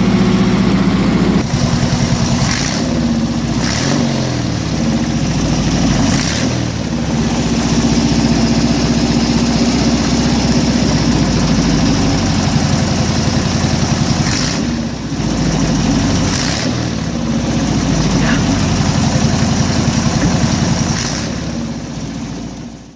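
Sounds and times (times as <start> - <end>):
flat-four engine running: 0.0 - 22.9.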